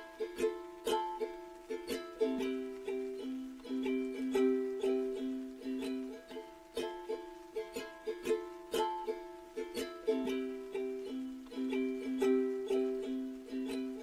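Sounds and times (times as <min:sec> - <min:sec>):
plucked string instrumental music: 0:00.0 - 0:14.0.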